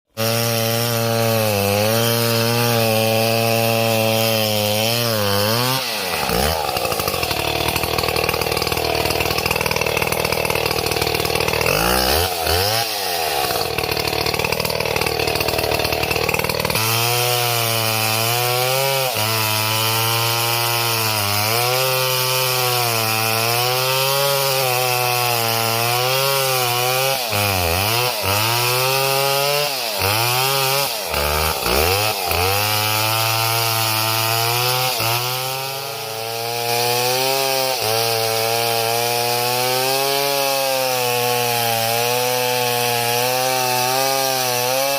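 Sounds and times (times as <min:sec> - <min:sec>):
chainsaw cutting a tree: 0:00.1 - 0:44.9.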